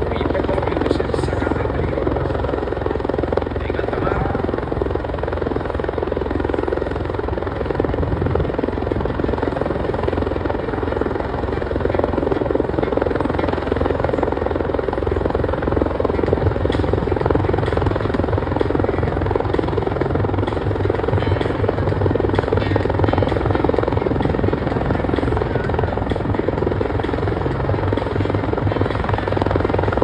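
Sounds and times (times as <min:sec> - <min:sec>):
helicopter rotor chop: 0:00.0 - 0:30.0.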